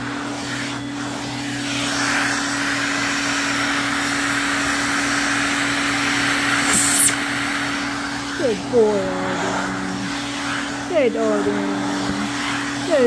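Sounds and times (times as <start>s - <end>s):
air rushing through brush nozzle: 0.0s - 10.9s
vacuum cleaner motor hum: 0.0s - 13.0s.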